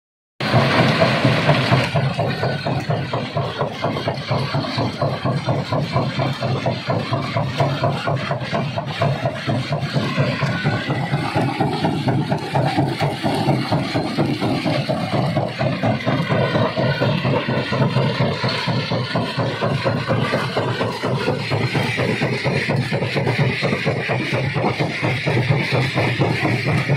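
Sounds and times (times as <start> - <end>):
engine hum: 0.4 - 26.9.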